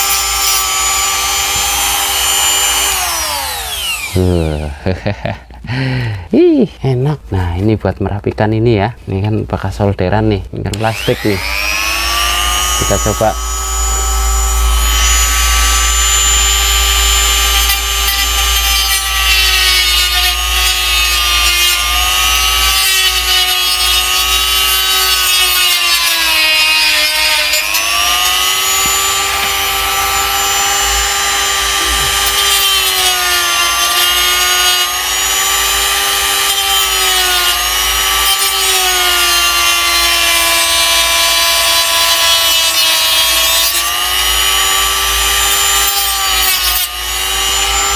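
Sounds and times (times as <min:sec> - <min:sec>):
die grinder grinding plastic: 0:00.0 - 0:04.7, 0:10.5 - 0:47.9.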